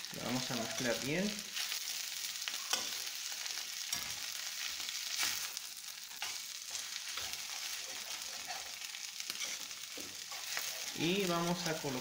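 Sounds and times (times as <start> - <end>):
food sizzling in a pan: 0.0 - 12.0
metal spoon scraping a pan: 0.5 - 11.2.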